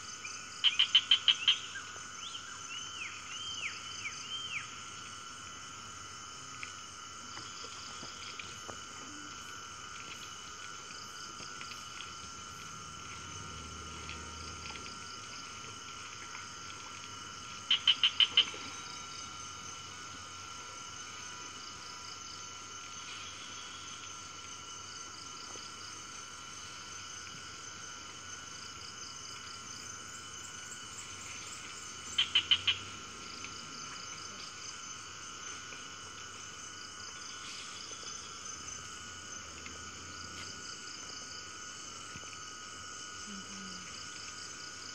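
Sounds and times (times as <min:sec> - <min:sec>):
insects and frogs droning: 0:00.0 - 0:44.9.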